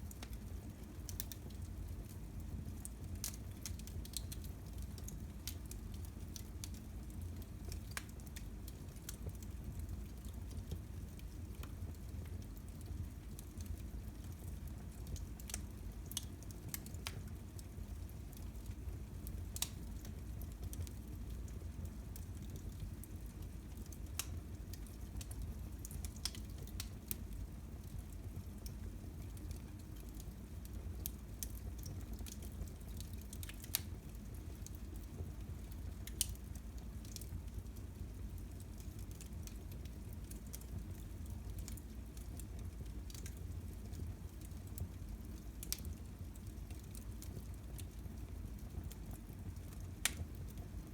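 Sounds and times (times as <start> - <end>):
fire crackling and popping: 0.0 - 50.9
fire low rumble: 0.0 - 50.9.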